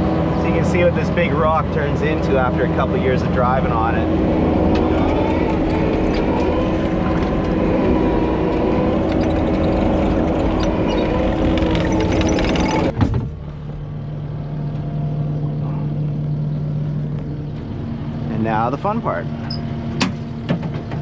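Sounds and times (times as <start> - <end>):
diesel engine running hard: 0.0 - 21.0.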